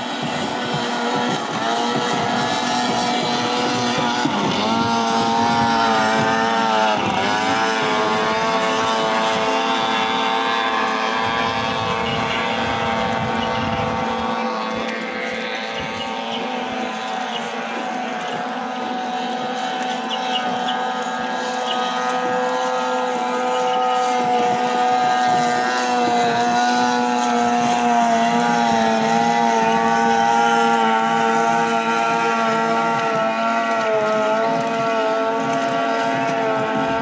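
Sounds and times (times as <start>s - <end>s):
outboard motors whining: 0.0s - 37.0s.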